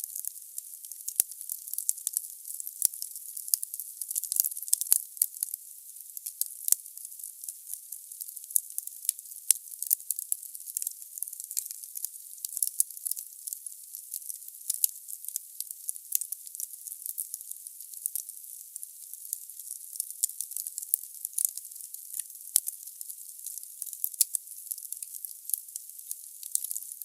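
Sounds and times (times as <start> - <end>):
firewood crackling in fireplace: 0.1 - 5.4, 7.7 - 27.0.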